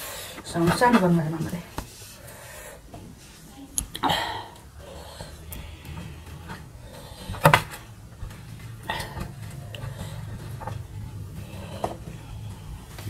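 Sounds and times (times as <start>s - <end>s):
food mixed on brass plates: 0.0s - 13.0s.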